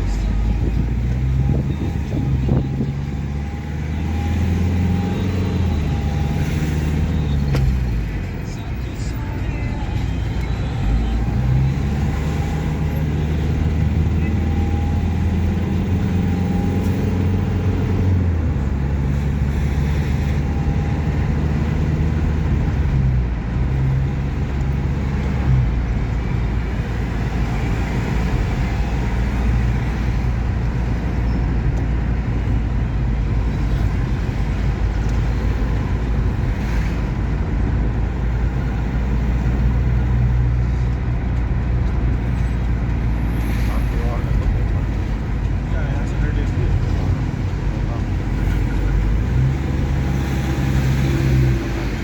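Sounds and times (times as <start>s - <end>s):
road noise: 0.0s - 52.0s.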